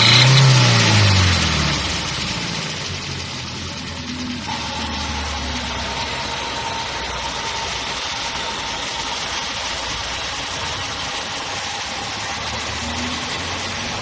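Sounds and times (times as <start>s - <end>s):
petrol engine idling with ticking: 0.0s - 14.0s.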